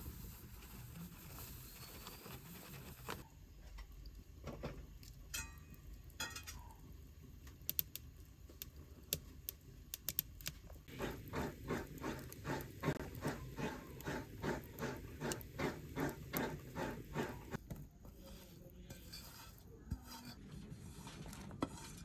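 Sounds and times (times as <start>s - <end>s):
wood fire crackling: 0.0s - 19.7s.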